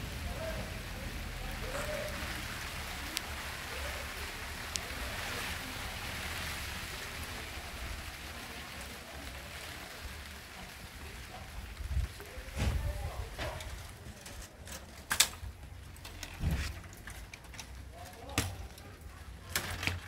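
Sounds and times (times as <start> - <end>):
rain hissing: 0.0 - 20.0
raindrops ticking: 0.0 - 20.0.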